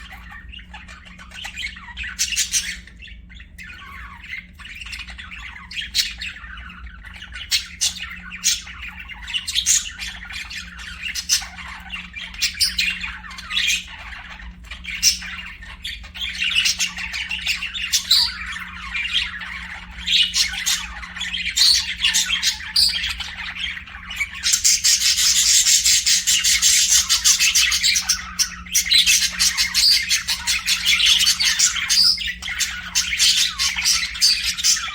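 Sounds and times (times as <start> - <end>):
budgerigars chirping and squawking: 0.0 - 34.9.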